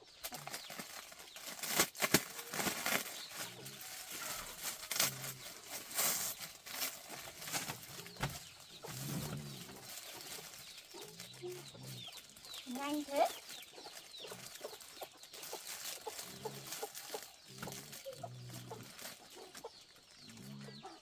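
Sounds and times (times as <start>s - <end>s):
chickens clucking: 2.2s - 21.0s.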